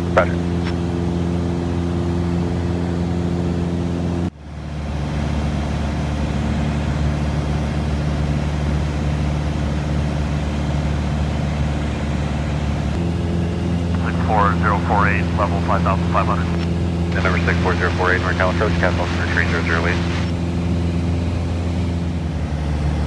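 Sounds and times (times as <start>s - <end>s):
turboprop engine and propeller drone: 0.0s - 23.0s.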